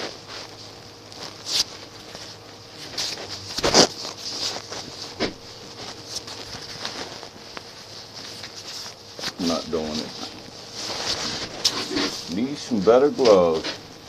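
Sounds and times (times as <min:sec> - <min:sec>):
gloves rustling: 0:00.0 - 0:14.0.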